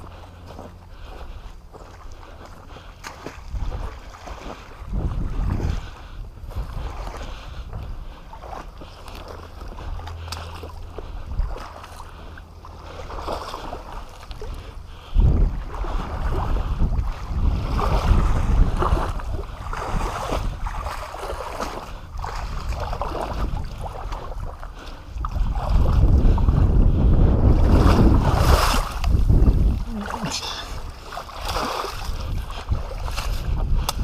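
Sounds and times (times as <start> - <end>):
splashing through water: 0.0 - 7.6, 8.2 - 26.7, 27.4 - 34.0
wind buffeting microphone: 0.0 - 34.0.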